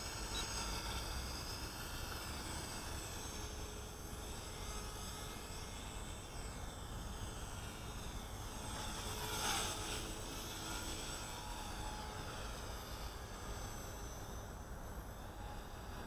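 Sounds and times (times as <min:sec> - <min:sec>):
rc helicopter motor whine: 0:00.0 - 0:16.0.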